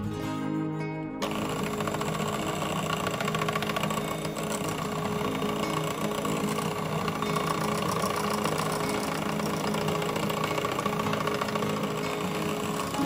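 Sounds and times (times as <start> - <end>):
electric hand mixer whine: 1.2 - 13.0.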